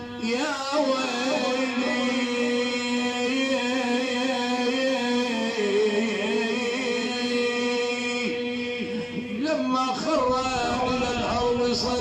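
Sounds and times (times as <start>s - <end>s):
man chanting a wavering lament: 0.0s - 12.0s.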